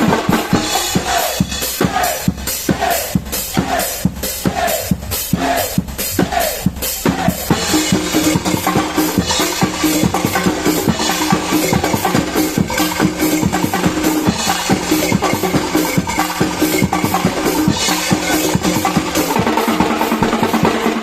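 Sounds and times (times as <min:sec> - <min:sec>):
percussion ensemble drumming: 0:00.0 - 0:21.0.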